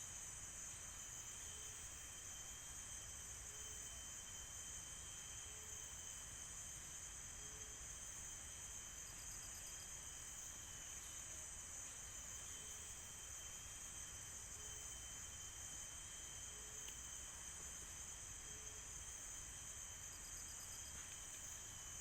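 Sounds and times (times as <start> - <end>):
thin continuous whine: 0.0 - 22.0
insect chorus buzzing: 0.1 - 22.0.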